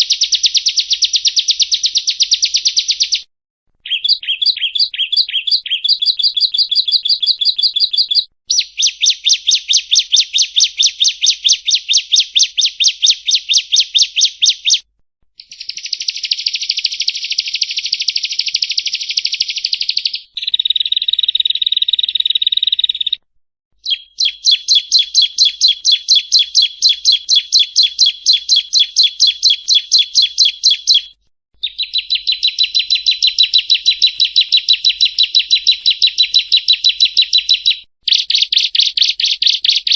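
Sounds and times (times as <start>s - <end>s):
bird chirping rapidly: 0.0s - 3.2s, 3.8s - 23.2s, 23.8s - 39.9s.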